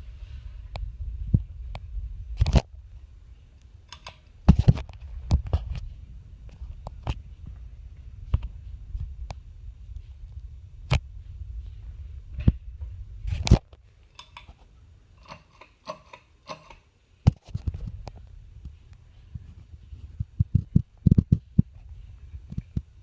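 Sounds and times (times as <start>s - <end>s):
low rumble: 0.0s - 15.2s, 17.6s - 23.0s.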